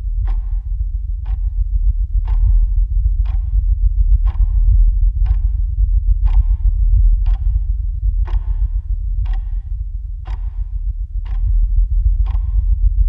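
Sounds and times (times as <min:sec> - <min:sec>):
clock ticking: 0:00.2 - 0:13.0.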